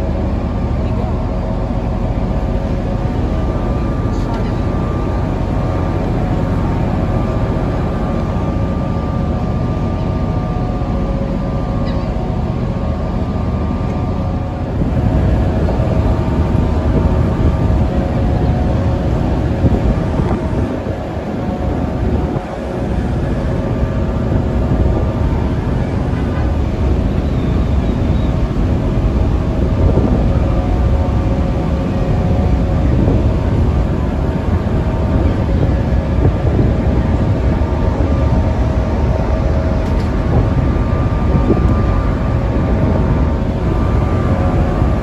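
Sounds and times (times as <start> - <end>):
ship engines droning: 0.0 - 45.0
wind rumbling on microphone: 0.0 - 45.0.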